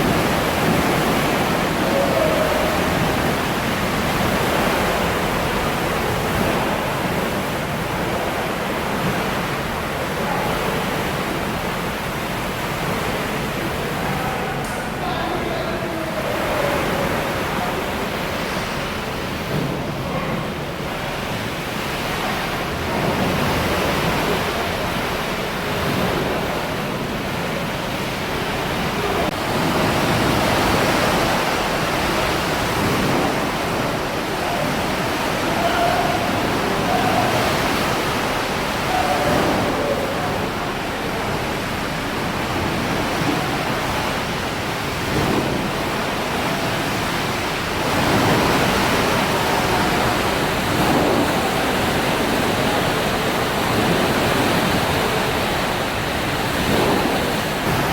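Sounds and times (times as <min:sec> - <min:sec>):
pool water sloshing and crashing: 0:00.0 - 0:57.9.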